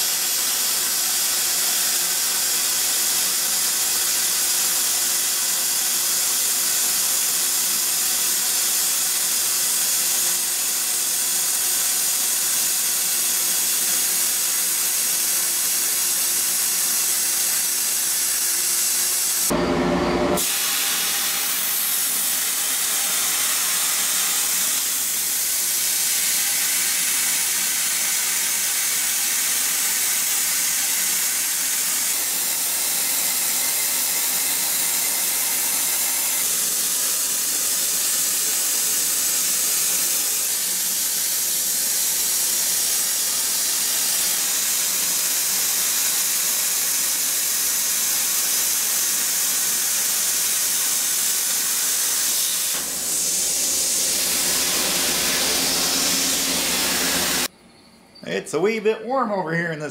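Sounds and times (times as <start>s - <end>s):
plasma cutter hissing: 0.0s - 19.5s, 20.4s - 57.5s.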